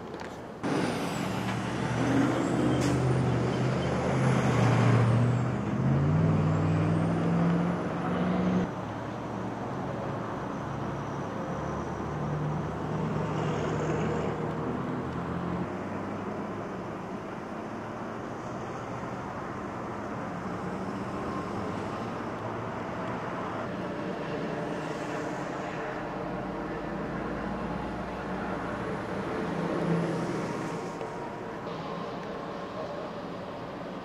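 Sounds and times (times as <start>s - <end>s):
heavy vehicle engine: 0.0s - 34.0s
traffic roar: 0.0s - 34.0s.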